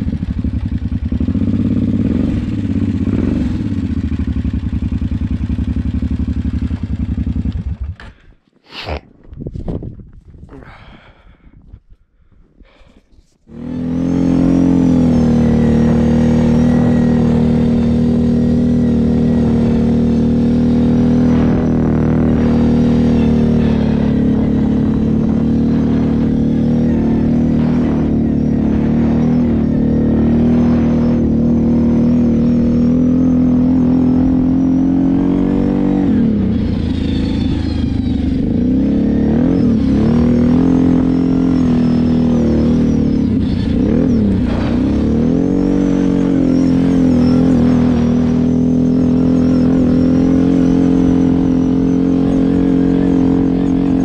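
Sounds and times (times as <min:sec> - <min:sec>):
quad bike engine revving: 0:00.0 - 0:08.3, 0:13.5 - 0:54.0.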